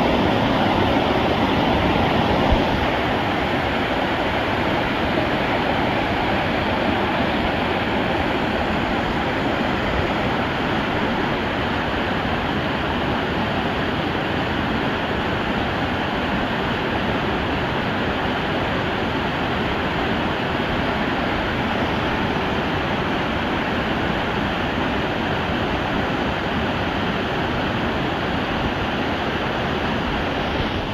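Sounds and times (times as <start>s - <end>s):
stream rushing over rocks: 0.0s - 30.9s.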